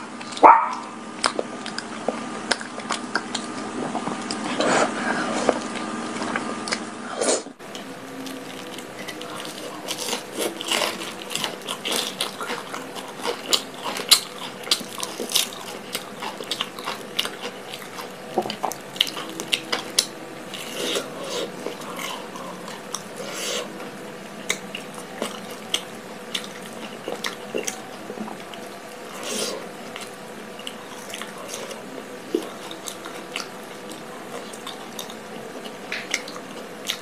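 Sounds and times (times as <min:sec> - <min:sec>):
chewing and biting crunchy food: 0:00.0 - 0:37.0.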